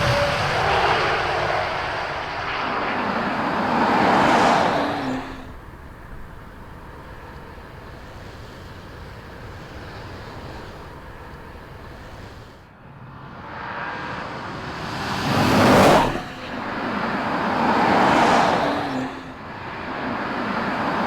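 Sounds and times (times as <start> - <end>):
car driving past: 0.0 - 21.0
steady road noise: 0.0 - 21.0.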